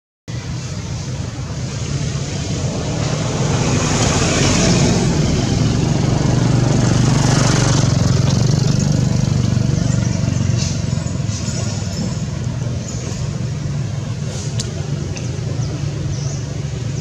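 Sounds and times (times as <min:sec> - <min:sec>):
low hum: 0:00.3 - 0:16.9
loud steady rumbling: 0:00.3 - 0:17.0.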